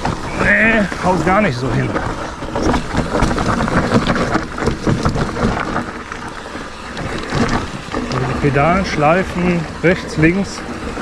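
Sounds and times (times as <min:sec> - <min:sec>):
bike rattling: 0:00.0 - 0:11.0
pedals knocking and scraping: 0:00.0 - 0:11.0
tyres crunching over leaves and soil: 0:00.0 - 0:11.0.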